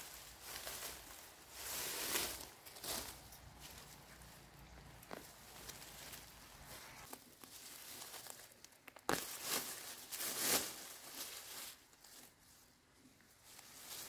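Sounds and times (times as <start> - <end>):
crinkling handling noise: 0.0 - 14.0.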